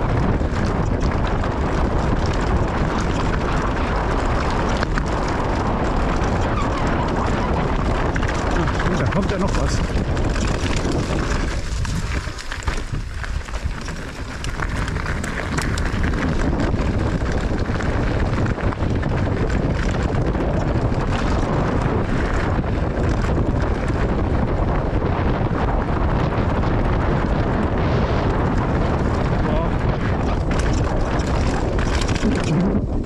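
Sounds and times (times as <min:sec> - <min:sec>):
bike tyres rolling over dirt: 0:00.0 - 0:33.0
wind buffeting microphone: 0:00.0 - 0:33.0.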